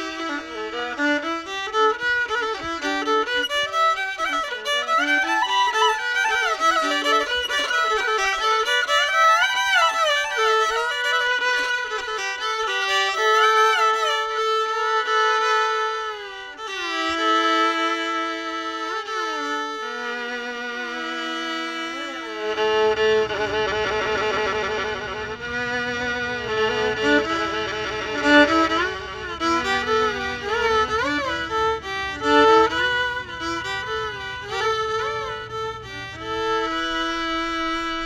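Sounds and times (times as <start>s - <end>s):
lower accompaniment: 0.0s - 38.0s
violin melody: 0.0s - 38.0s.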